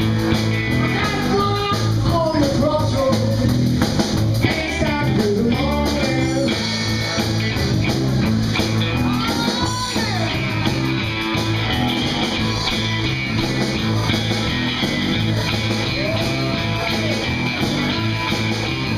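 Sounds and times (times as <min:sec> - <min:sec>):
electric guitar lead: 0:00.0 - 0:18.9
live band playing: 0:00.0 - 0:18.9.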